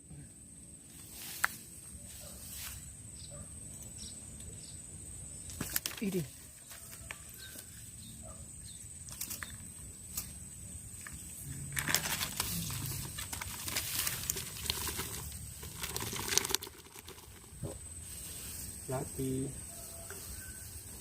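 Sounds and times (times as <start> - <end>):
rustling and crinkling: 0.9 - 3.0, 5.4 - 8.2, 9.0 - 21.0.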